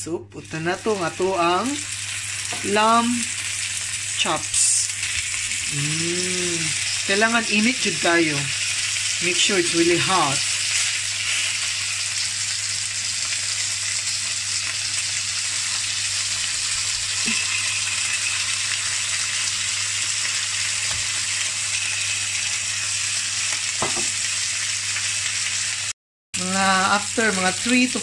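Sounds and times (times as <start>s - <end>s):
meat sizzling in a skillet: 0.4s - 28.0s.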